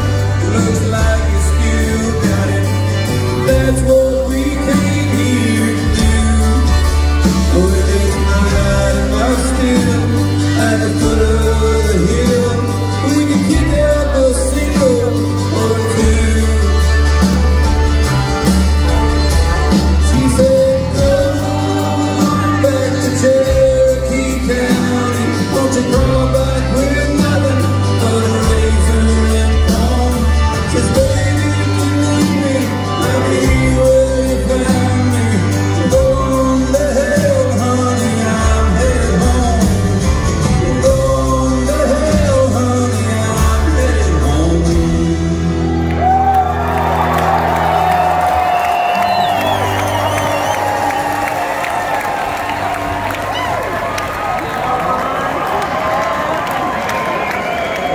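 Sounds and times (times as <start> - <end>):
country band playing live: 0.0 - 57.9.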